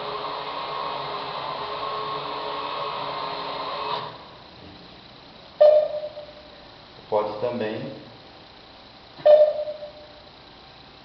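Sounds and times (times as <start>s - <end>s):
blind motor humming and whining: 0.0s - 11.0s.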